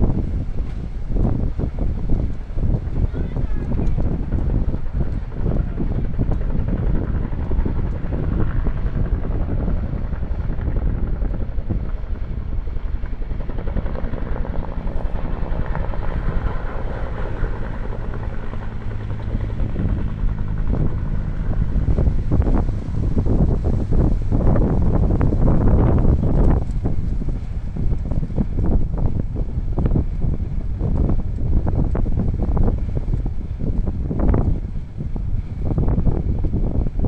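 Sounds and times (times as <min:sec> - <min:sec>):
helicopter rotor rumble: 0:00.0 - 0:37.0.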